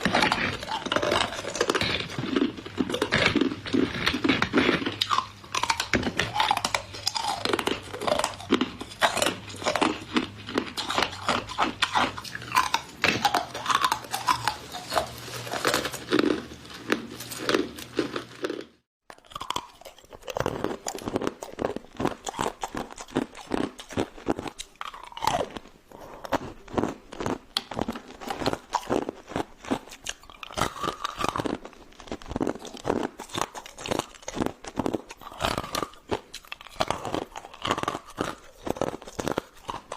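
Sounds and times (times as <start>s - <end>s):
ice cubes crunching when chewed: 0.0s - 39.9s.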